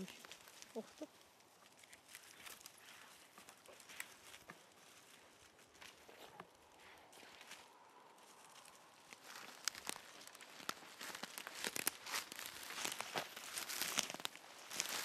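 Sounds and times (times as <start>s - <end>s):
footsteps through dry undergrowth: 0.0s - 15.0s
grass and brush rustling: 0.0s - 15.0s
twigs snapping: 0.0s - 15.0s.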